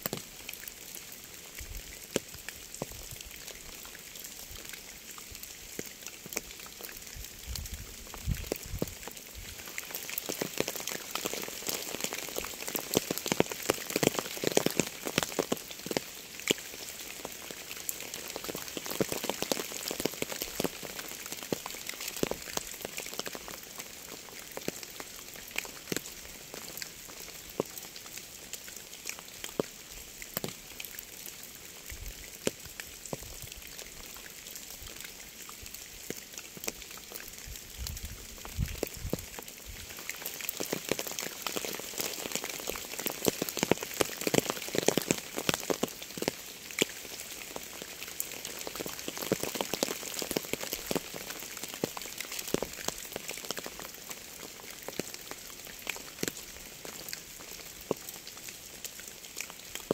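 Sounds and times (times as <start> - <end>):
raindrops striking close by: 0.0 - 59.9
steady rain falling: 0.0 - 59.9.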